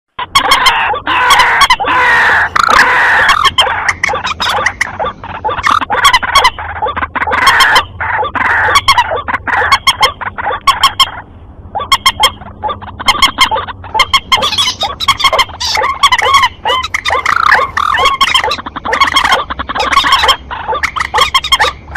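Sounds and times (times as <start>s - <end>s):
bird calls rapid clucking: 0.2s - 21.9s.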